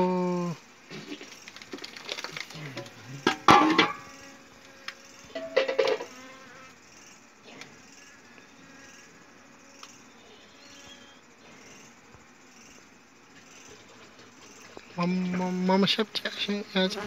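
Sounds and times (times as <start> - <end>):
honeybees humming: 0.0 - 17.0.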